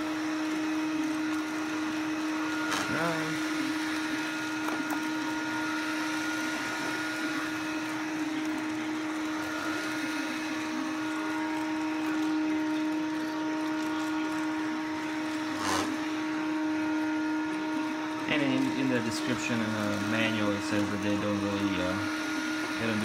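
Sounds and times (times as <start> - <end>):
robot vacuum humming and whining: 0.0 - 23.0.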